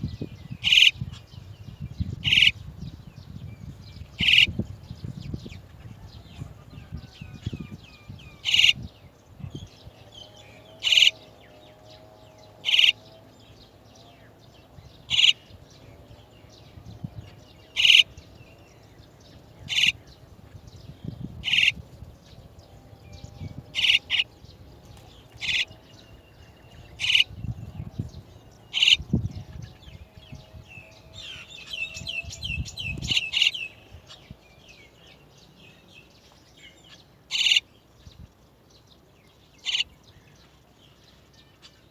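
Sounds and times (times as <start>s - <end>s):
starlings calling: 0.0s - 41.9s.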